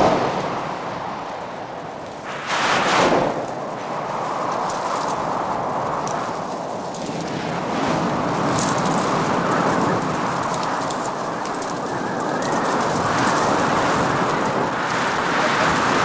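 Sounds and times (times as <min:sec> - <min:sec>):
strong wind in sandstorm: 0:00.0 - 0:16.0.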